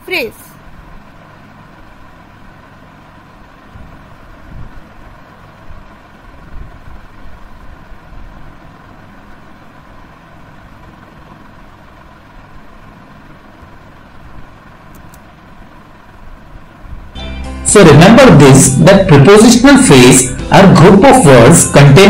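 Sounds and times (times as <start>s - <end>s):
faint hum: 0.0s - 22.0s
low rumbling background noise: 0.0s - 22.0s.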